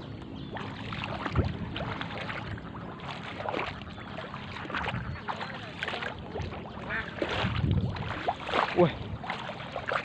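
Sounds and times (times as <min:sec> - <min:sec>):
low steady hum: 0:00.0 - 0:10.0
water sloshing and splashing: 0:00.0 - 0:10.0.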